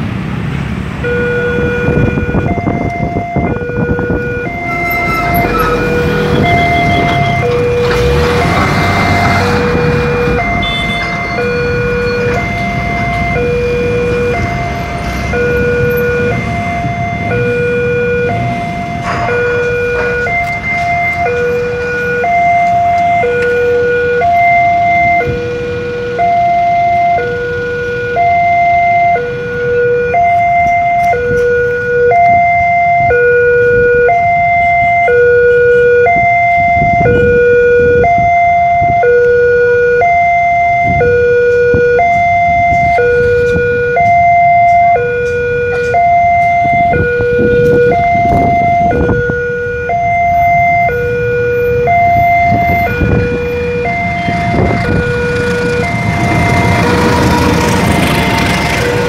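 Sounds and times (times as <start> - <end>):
low road traffic rumble: 0.0 - 59.0
level crossing two-tone alarm: 1.0 - 57.5.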